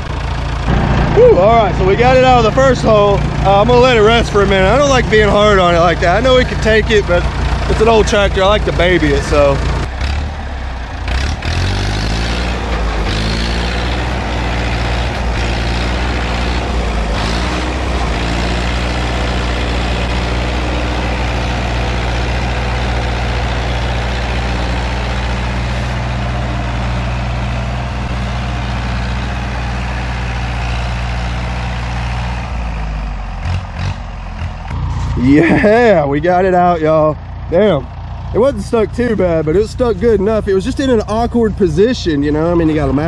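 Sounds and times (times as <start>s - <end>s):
tractor engine running hard: 0.0s - 43.0s.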